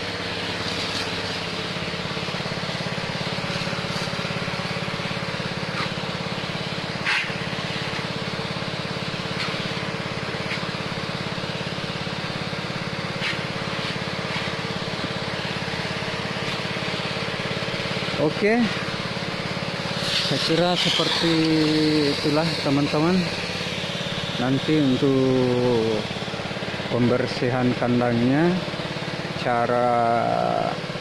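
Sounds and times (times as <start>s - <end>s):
hissing water jet: 0.0s - 31.0s
small engine running: 0.0s - 31.0s.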